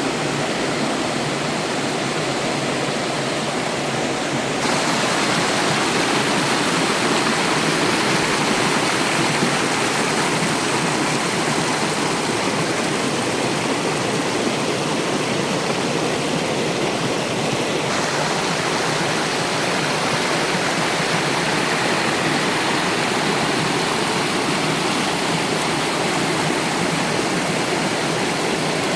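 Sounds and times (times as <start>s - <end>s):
waterfall rushing and splashing: 0.0s - 28.9s.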